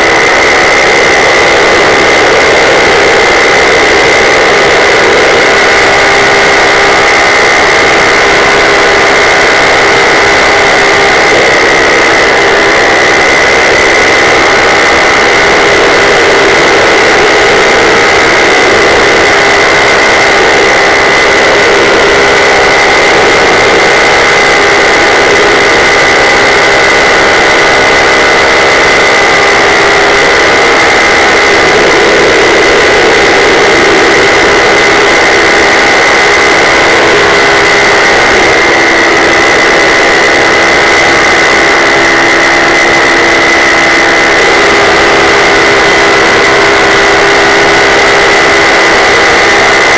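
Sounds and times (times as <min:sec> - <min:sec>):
paramotor engine drone: 0:00.0 - 0:49.9
propeller high whine: 0:00.0 - 0:49.9.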